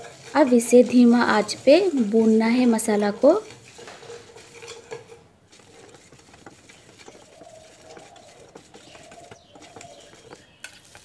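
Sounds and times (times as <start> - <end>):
spatula scraping spices in pan: 0.0 - 11.0.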